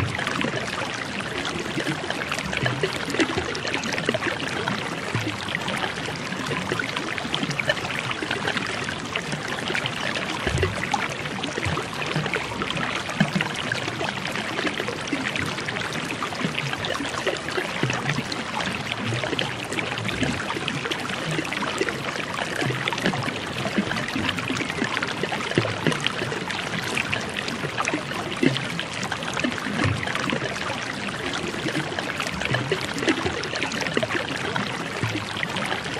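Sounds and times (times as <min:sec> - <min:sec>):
water flowing in a stream: 0:00.0 - 0:35.9.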